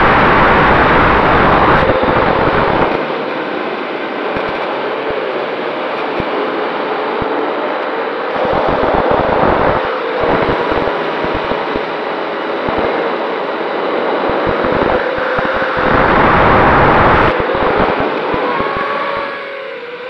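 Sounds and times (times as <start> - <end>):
wind buffeting: 0.0 - 5.1, 5.7 - 19.6
drone propellers buzzing: 0.0 - 20.0.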